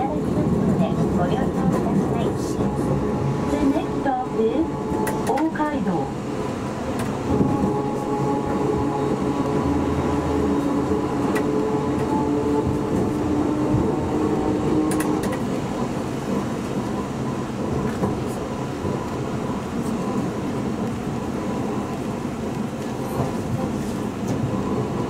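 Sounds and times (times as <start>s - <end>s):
streetcar motor whine: 0.0s - 25.0s
streetcar wheels rumbling: 0.0s - 25.0s.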